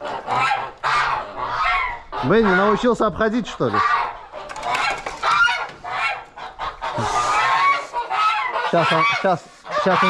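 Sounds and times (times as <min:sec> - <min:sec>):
geese honking: 0:00.0 - 0:10.0.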